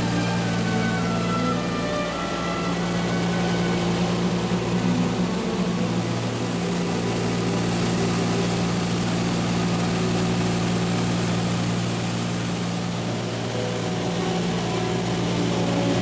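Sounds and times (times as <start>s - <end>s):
small aircraft engine drone: 0.0s - 16.0s.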